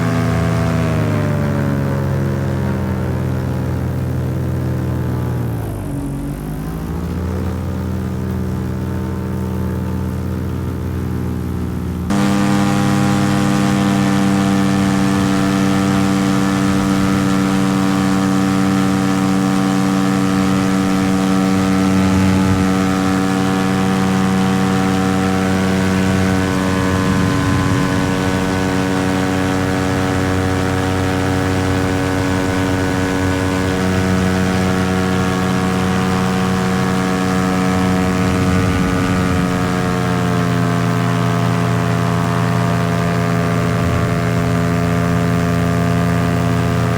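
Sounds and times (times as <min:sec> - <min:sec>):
paramotor engine and propeller: 0:00.0 - 0:46.9.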